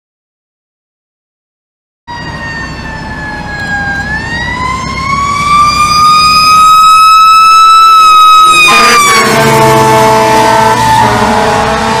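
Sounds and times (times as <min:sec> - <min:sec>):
fire engine siren wailing: 0:02.1 - 0:12.0.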